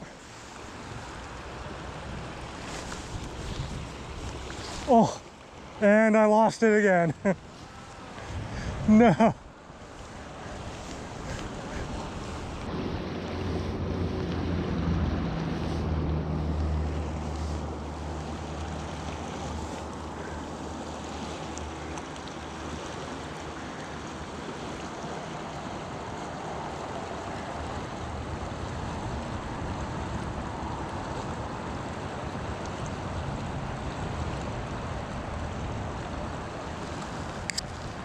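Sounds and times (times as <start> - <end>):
river rushing over rocks: 0.0 - 38.0.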